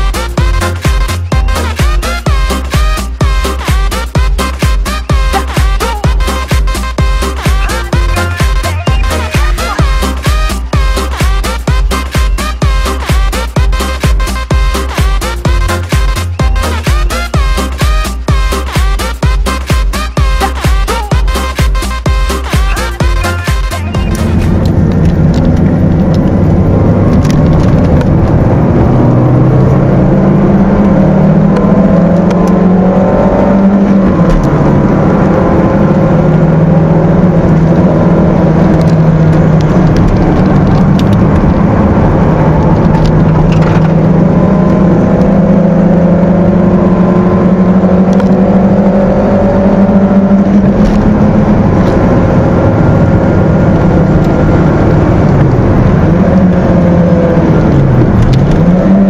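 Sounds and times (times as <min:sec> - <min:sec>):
car engine revving: 0:00.0 - 0:59.0
road noise: 0:00.0 - 0:59.0.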